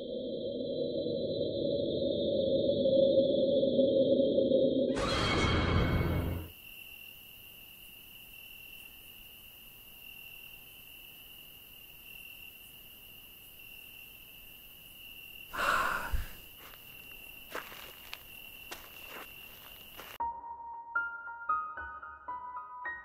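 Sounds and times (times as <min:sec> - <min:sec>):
crickets chirring: 0:00.0 - 0:20.2.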